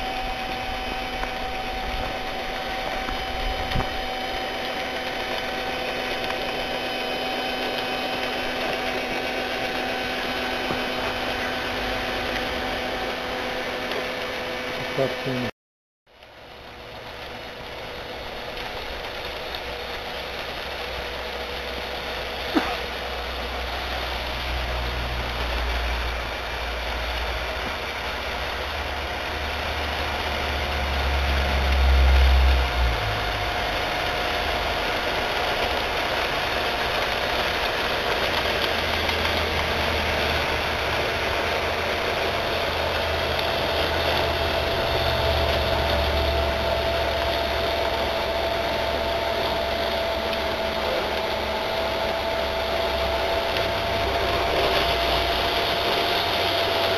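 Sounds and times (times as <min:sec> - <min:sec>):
battery drill whining: 0:00.0 - 0:15.5, 0:16.8 - 0:56.9.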